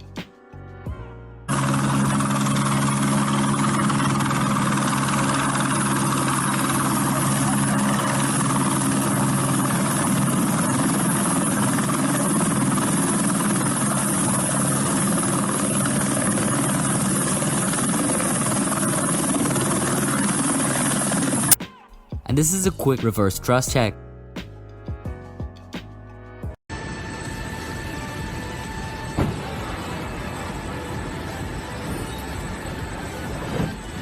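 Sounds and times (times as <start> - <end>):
aircraft engine droning hum: 1.5 - 21.6, 26.7 - 34.0.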